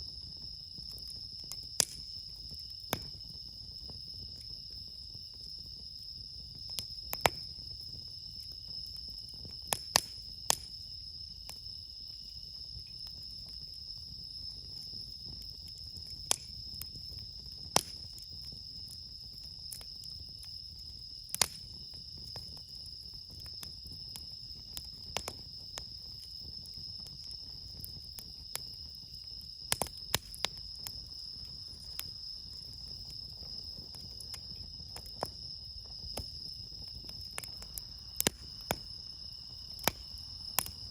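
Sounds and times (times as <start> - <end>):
campfire crackling: 0.0 - 40.9
crickets trilling: 0.0 - 40.9.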